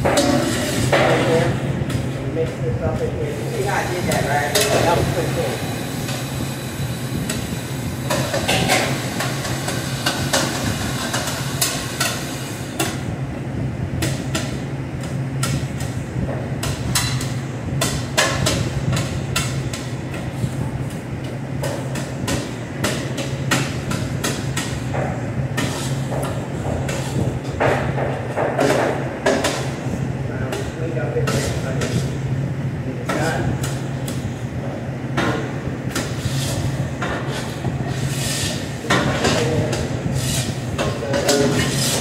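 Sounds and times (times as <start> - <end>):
utensil clanking on metal cookware: 0.0 - 13.1, 14.0 - 32.3, 35.1 - 42.0
kitchen exhaust hood hum: 0.0 - 42.0.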